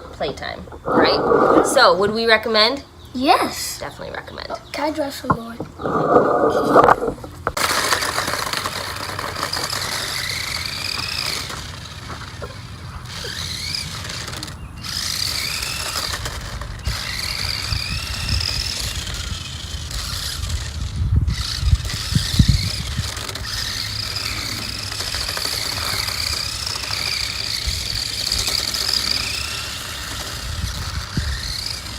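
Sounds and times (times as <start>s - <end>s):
toy car electric motor whining: 5.8s - 31.9s.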